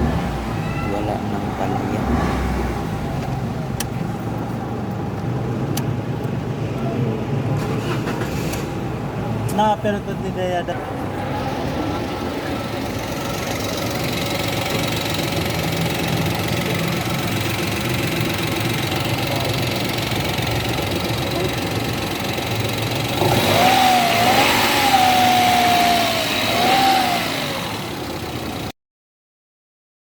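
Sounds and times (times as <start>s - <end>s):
car engine idling and revving: 0.0s - 28.7s.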